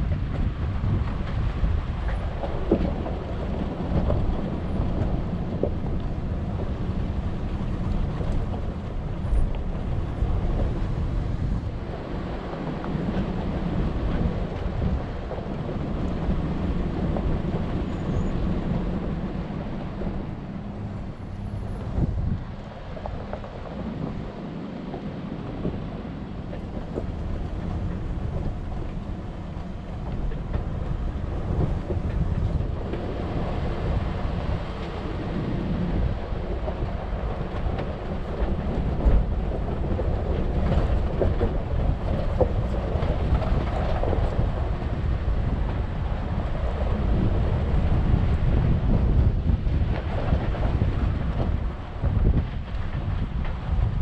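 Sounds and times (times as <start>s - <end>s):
vehicle engine and tyres rumbling: 0.0s - 54.0s.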